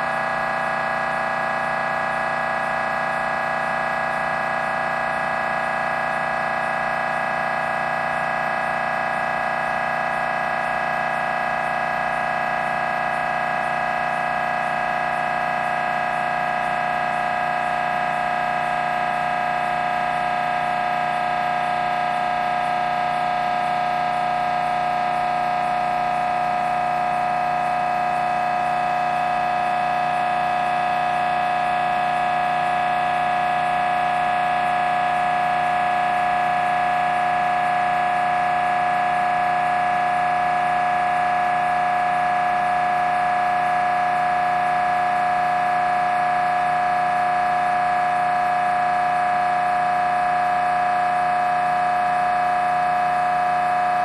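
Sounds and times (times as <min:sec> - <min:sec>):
mri scanner loud buzzing tone: 0:00.0 - 0:54.0.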